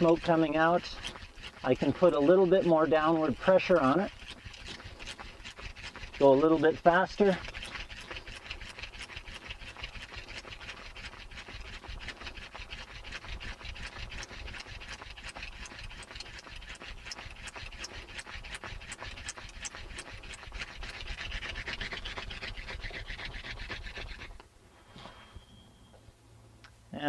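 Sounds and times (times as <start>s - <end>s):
hand drill rasping wood on wood: 0.0s - 24.4s.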